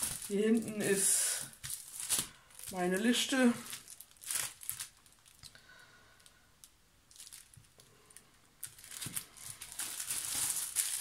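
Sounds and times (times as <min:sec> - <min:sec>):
plastic sleeve rustling: 0:00.0 - 0:05.6, 0:06.2 - 0:11.0.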